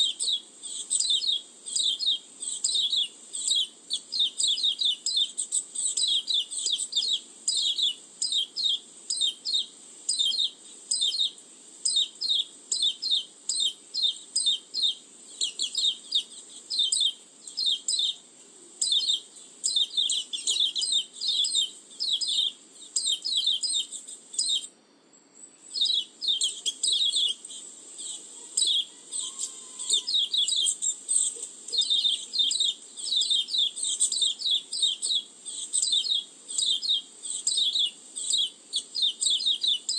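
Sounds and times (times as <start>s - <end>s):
high sharp bird chirps: 0.0s - 18.2s, 18.8s - 24.7s, 25.7s - 39.9s.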